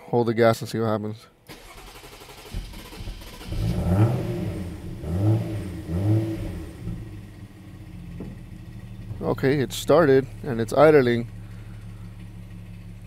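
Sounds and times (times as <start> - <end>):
car engine surging: 1.5 - 13.0.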